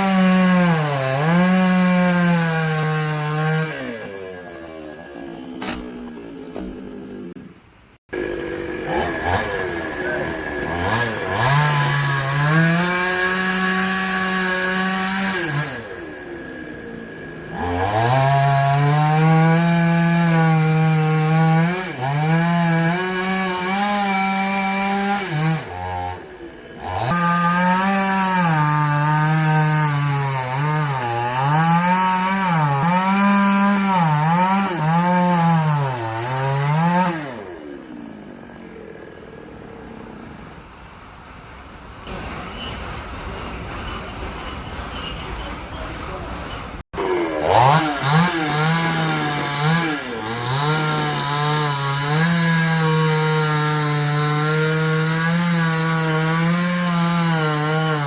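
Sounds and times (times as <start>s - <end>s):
chainsaw cutting wood: 0.0s - 40.6s, 47.0s - 58.0s.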